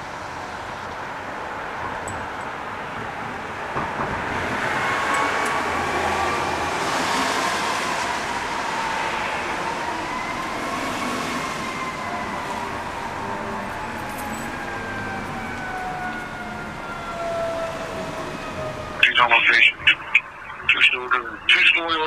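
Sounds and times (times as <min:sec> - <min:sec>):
fire truck siren wailing: 0:00.0 - 0:22.0
passing traffic: 0:00.0 - 0:22.0.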